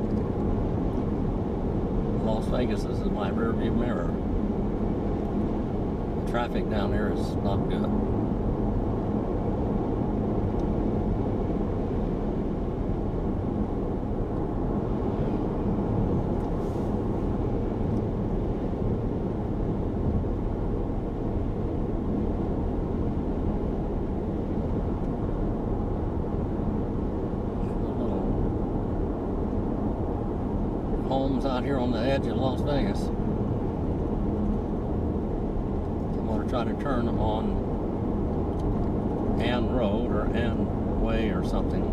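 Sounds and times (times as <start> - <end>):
car road and engine noise: 0.0 - 41.9.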